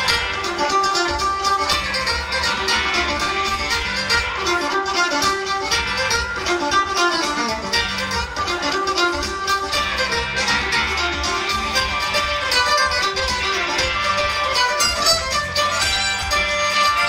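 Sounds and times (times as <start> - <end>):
fiddle: 0.0 - 17.0
folk band playing instrumental: 0.0 - 17.0.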